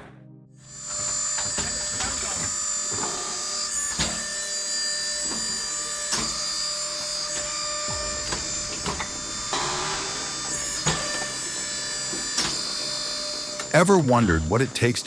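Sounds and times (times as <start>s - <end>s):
wood-splitting machine humming: 0.8s - 15.0s.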